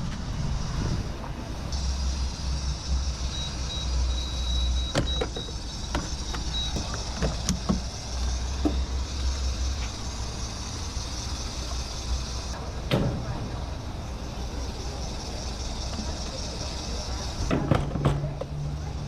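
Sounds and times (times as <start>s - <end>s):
car engine droning: 0.0s - 19.0s
road and wind hiss: 0.0s - 19.0s.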